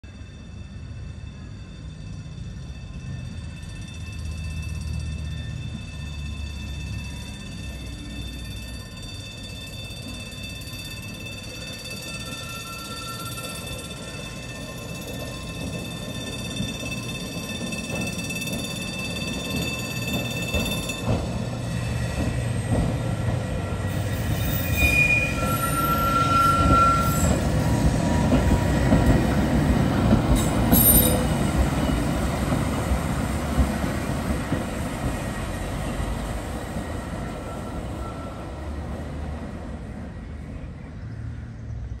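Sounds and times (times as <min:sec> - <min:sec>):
high wheel squeals: 0:00.1 - 0:39.3
tram wheel and motor rumble: 0:00.1 - 0:42.0.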